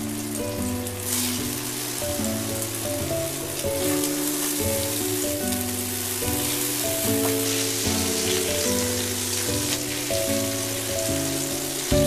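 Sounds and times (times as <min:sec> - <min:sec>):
background music: 0:00.0 - 0:12.0
meat sizzling in frying pan: 0:00.0 - 0:12.0.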